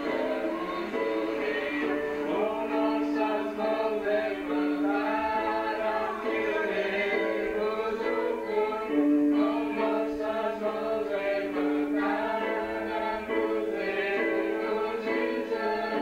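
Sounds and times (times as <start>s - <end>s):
voices singing worship song: 0.0s - 16.0s.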